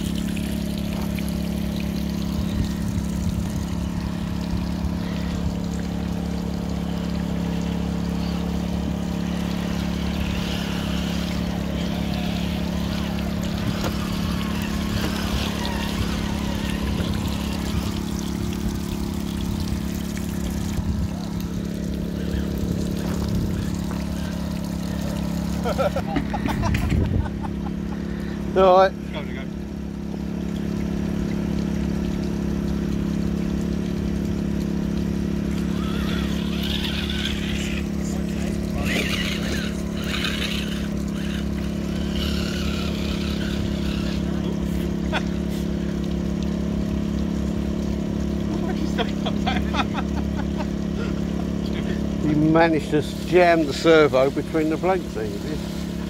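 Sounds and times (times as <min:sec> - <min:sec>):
generator humming: 0:00.0 - 0:56.0
water pouring down waterfall: 0:00.0 - 0:56.0.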